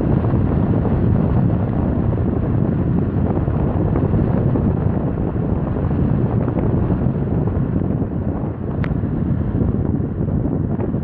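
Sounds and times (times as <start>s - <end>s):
box fan air rushing: 0.0s - 11.0s.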